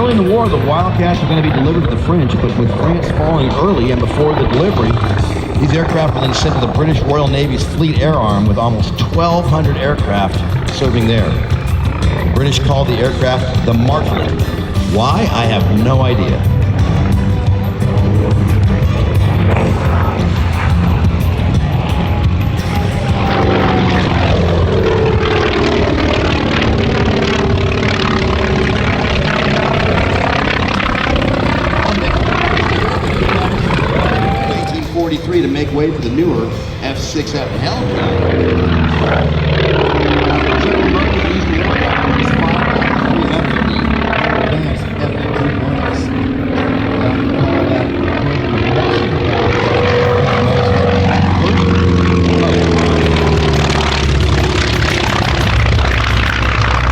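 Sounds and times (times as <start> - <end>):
propeller plane engine flyby: 0.0 - 56.9.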